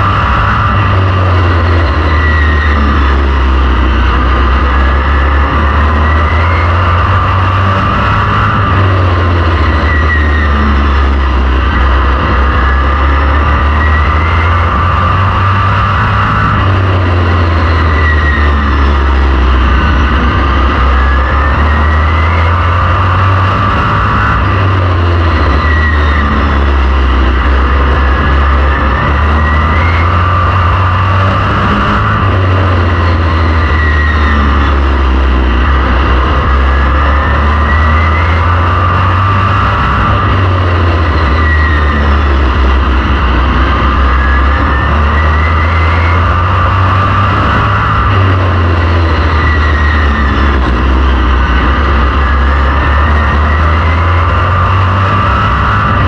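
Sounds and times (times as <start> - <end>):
race car engine drone: 0.0 - 56.0.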